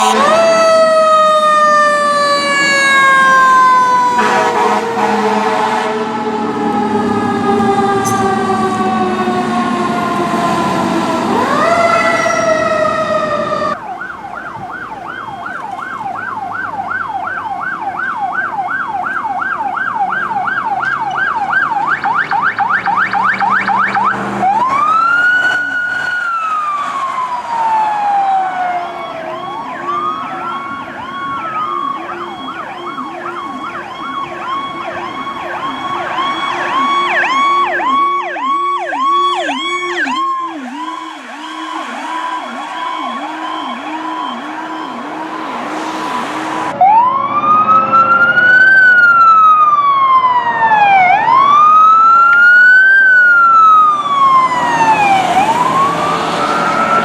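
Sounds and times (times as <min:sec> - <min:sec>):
electronic yelp siren: 0:00.0 - 0:57.0
fire truck siren wailing: 0:00.0 - 0:57.0.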